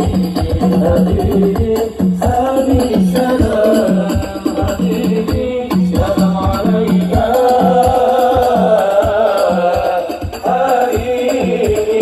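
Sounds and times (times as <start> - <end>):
person singing devotional song: 0.0 - 12.0
steady drum beat: 0.0 - 12.0.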